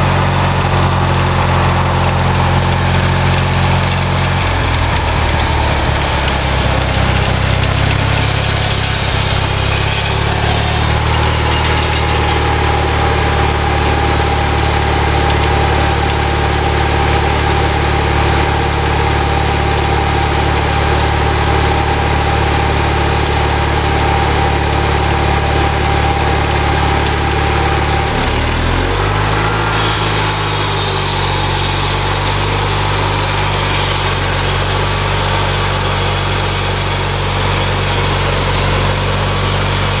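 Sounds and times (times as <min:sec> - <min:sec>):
lawnmower engine running: 0:00.0 - 0:40.0
sawmill drive whine: 0:00.0 - 0:40.0.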